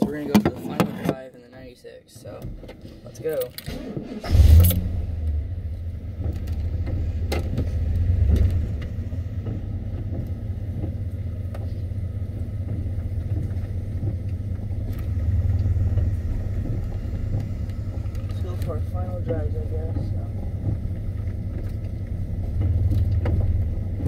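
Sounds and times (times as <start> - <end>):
car engine running: 3.2 - 24.0.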